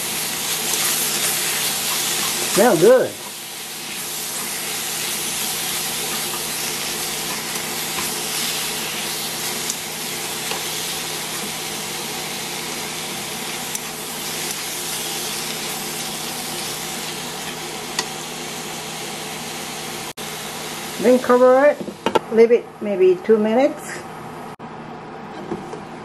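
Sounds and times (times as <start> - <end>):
food sizzling in a pan: 0.0 - 22.1.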